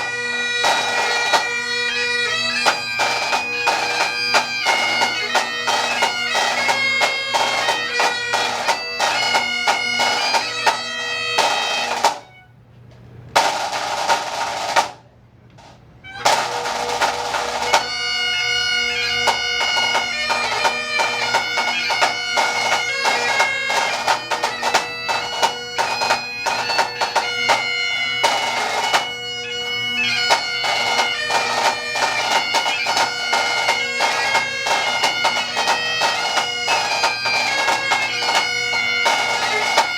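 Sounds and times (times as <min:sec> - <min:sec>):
snare drums beating: 0:00.0 - 0:12.3, 0:13.4 - 0:18.1, 0:19.1 - 0:29.2, 0:30.2 - 0:39.9
bagpipes playing melody: 0:00.0 - 0:12.4, 0:16.0 - 0:39.9.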